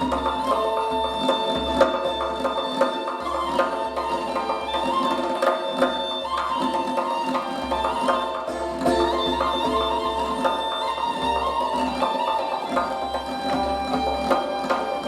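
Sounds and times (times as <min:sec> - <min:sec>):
classical lute and flute melody: 0:00.0 - 0:15.0
hand drum strokes: 0:00.0 - 0:15.0.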